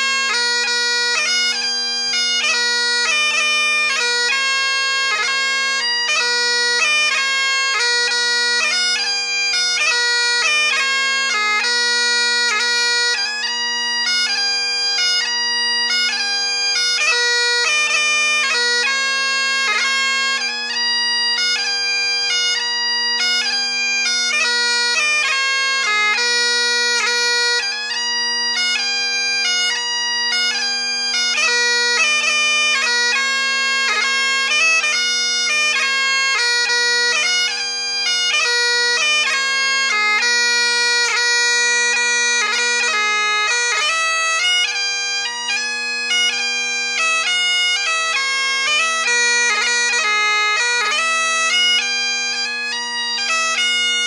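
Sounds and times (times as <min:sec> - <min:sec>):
bagpipe melody: 0:00.0 - 0:54.0.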